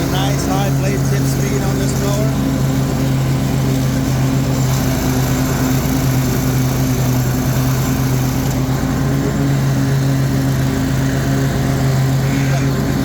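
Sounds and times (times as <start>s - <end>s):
mower blades whirring: 0.0s - 13.0s
riding mower engine humming: 0.0s - 13.0s.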